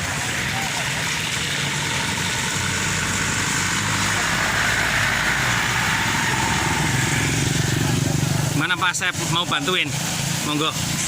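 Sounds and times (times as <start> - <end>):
vehicle engines idling: 0.0 - 11.0.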